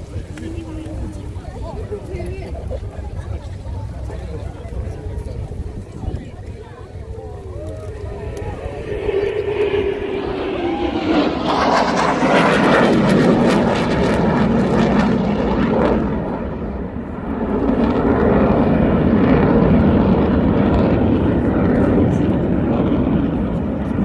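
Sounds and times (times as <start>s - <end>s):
military aircraft flying overhead: 0.0s - 24.0s.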